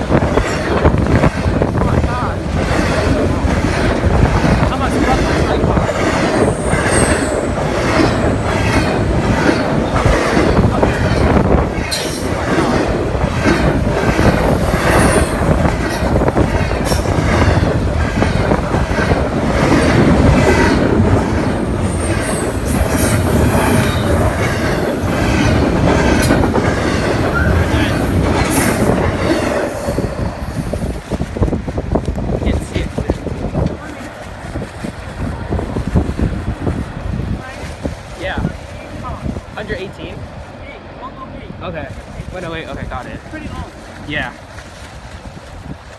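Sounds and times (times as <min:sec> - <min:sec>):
train wheels clacking on rail joints: 0:00.0 - 0:38.0
train rumble: 0:00.0 - 0:45.9.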